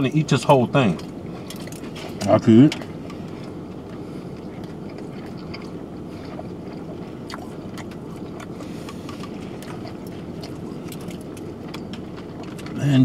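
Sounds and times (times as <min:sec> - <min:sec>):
low rumble in car cabin: 0:00.0 - 0:13.0
people chewing: 0:00.4 - 0:13.0.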